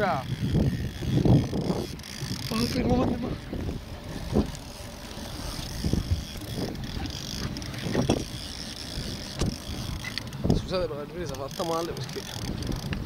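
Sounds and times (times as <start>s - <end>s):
boat motor running: 0.0s - 13.0s
wind rumble on microphone: 0.0s - 13.0s.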